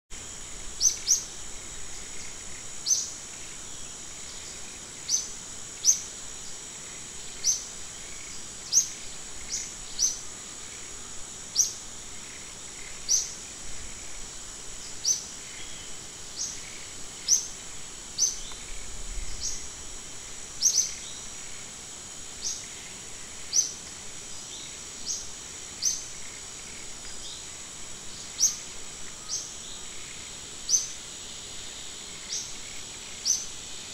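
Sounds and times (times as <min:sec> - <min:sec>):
high-pitched insect drone: 0:00.1 - 0:33.9.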